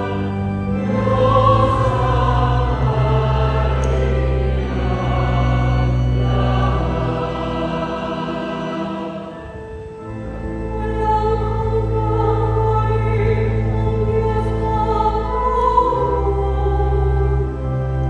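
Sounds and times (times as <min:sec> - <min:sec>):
choir singing held notes: 0:00.0 - 0:17.5
sustained low accompaniment: 0:00.0 - 0:18.0.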